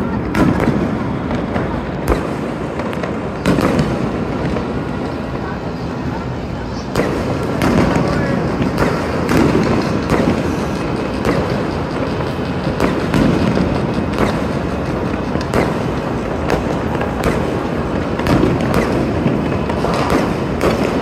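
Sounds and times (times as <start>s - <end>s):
fireworks crackling bangs: 0.0s - 21.0s
sharp firework reports: 0.0s - 21.0s.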